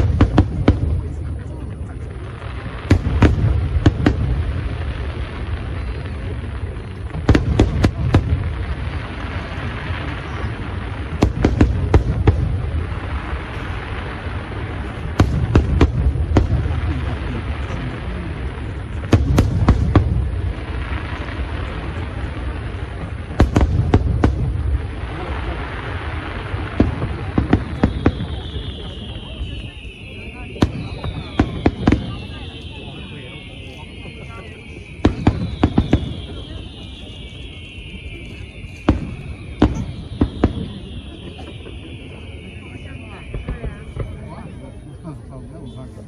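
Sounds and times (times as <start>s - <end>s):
fireworks bangs and cracks: 0.0s - 46.0s.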